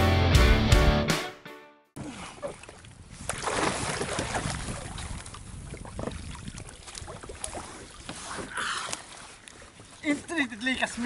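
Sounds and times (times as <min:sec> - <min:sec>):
water splashing around kayak: 0:02.0 - 0:11.0.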